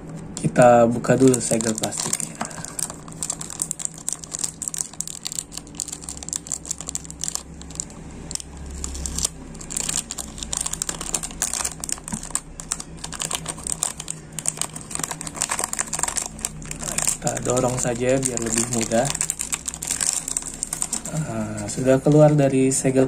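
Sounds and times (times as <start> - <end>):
plastic seal crinkling: 1.0 - 22.3.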